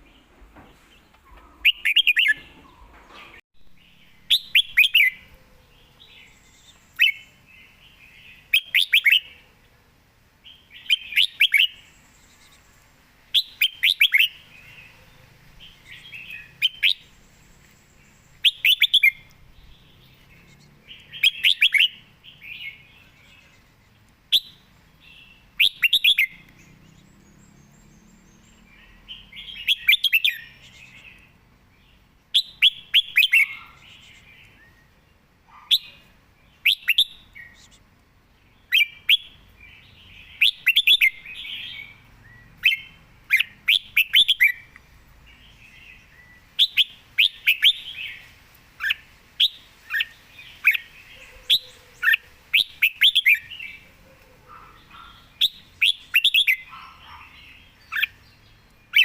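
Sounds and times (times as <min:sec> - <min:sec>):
bird singing short phrases: 0:01.0 - 0:09.4, 0:10.4 - 0:15.0, 0:15.6 - 0:59.0.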